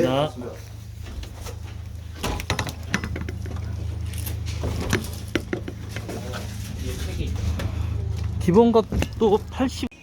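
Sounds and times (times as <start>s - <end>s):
low hum: 0.1s - 10.0s.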